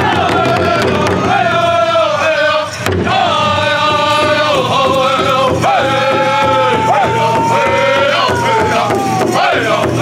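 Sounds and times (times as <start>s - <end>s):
steady beat on large drum: 0.0s - 1.9s, 2.8s - 10.0s
group chanting in high voices: 0.0s - 10.0s.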